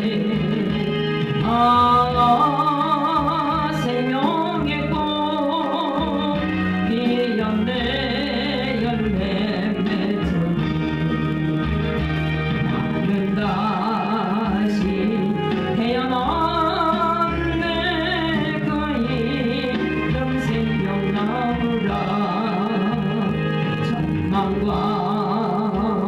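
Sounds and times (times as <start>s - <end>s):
person singing with vibrato: 0.0s - 12.0s, 12.7s - 26.0s
instrumental accompaniment: 0.0s - 26.0s.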